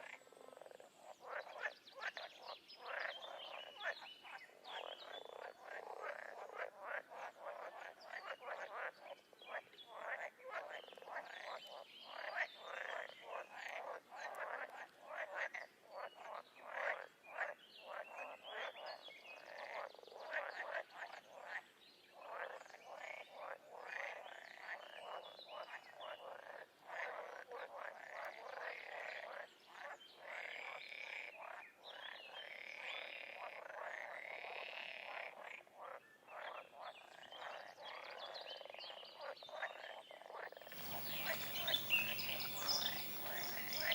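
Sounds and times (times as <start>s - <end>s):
frogs croaking and trilling: 0.0s - 43.9s.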